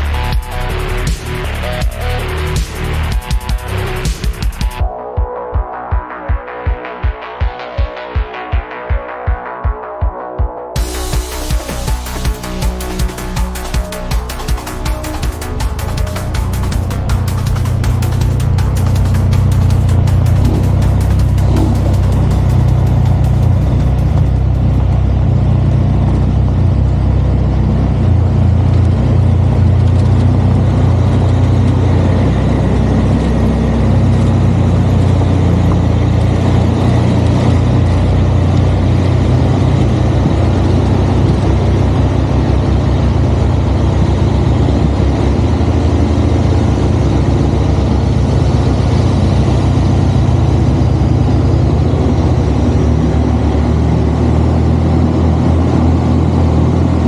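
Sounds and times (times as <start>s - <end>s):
truck diesel engine droning: 0.0s - 4.8s, 10.8s - 57.0s.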